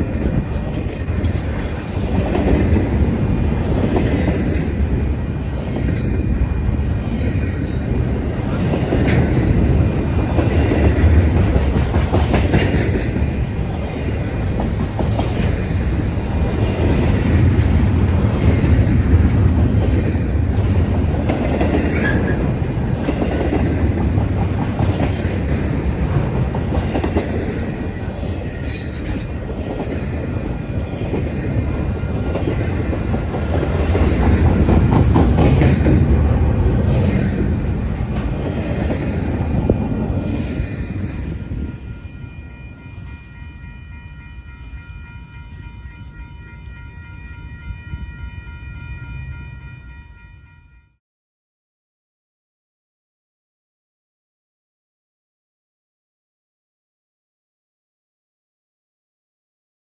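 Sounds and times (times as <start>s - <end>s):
freight train rumbling past: 0.0s - 50.8s.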